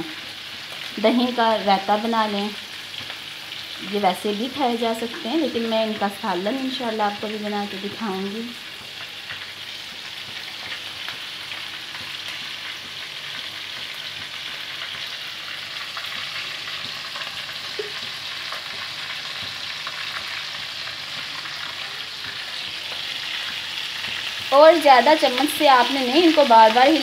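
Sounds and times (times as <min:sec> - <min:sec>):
meat sizzling in hot oil: 0:00.0 - 0:27.0.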